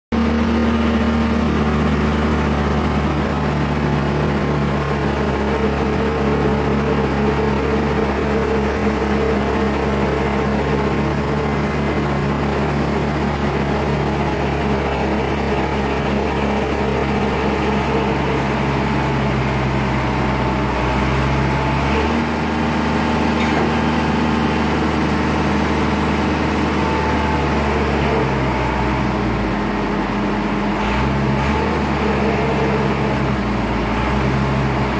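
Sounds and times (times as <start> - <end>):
large engine humming: 0.1 - 34.9.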